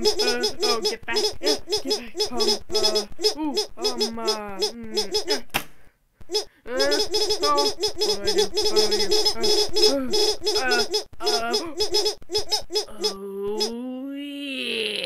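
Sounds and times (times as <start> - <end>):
squeaky cartoon voices calling: 0.0 - 5.5, 6.3 - 13.9.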